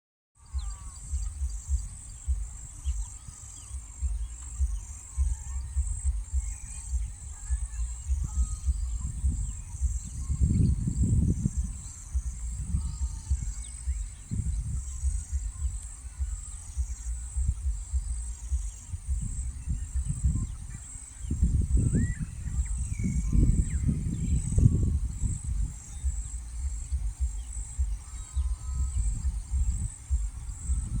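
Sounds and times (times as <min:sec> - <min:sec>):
faint bird chirps: 0:00.4 - 0:31.0
high-pitched pulsing insect chorus: 0:00.4 - 0:31.0
wind buffeting microphone: 0:00.4 - 0:31.0.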